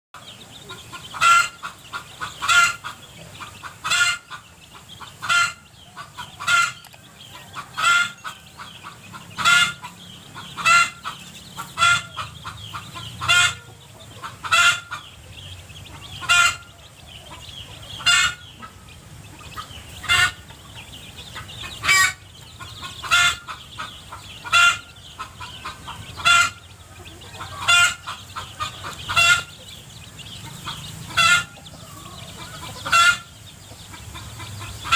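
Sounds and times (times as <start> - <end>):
hen clucking: 0.2 - 34.9.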